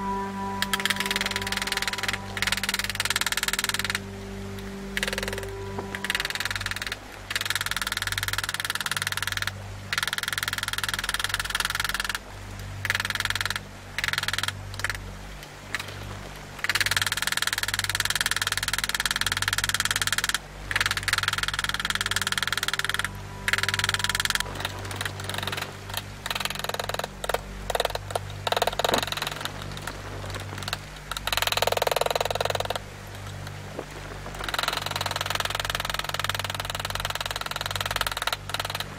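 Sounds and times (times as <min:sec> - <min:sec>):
steady low hum: 0:00.0 - 0:10.9, 0:13.6 - 0:38.9.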